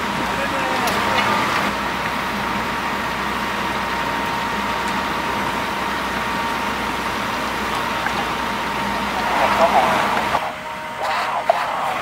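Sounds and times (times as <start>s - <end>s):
fire truck engine running: 0.0s - 12.0s
steady pump whine: 0.0s - 12.0s.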